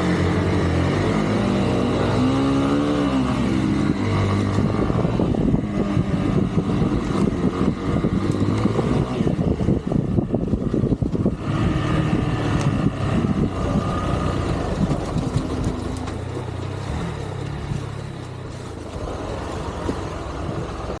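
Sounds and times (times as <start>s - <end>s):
engine knocks and rattles: 0.0s - 21.0s
off-road vehicle engine revving: 0.0s - 21.0s.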